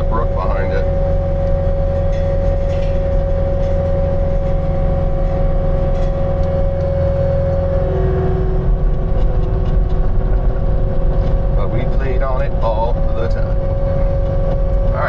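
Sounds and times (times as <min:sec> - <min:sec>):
construction machine engine whining: 0:00.0 - 0:15.0.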